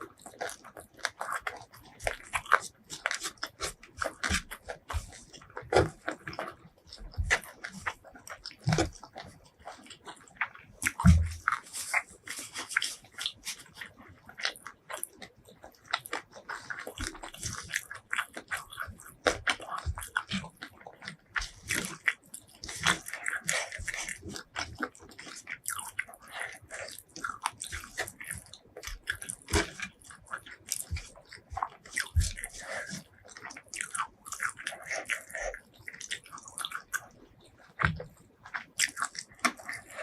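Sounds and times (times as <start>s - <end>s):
chewing crispy fried food: 0.0s - 40.0s.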